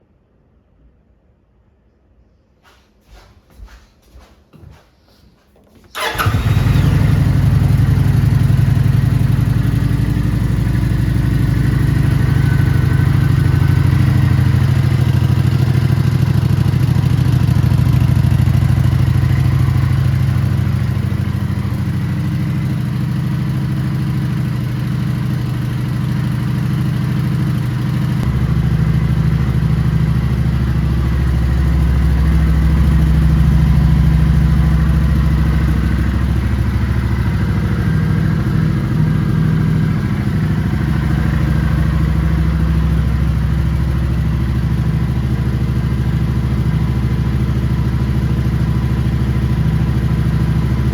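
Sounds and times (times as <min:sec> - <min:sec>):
motorcycle engine idling: 0:05.9 - 0:50.9.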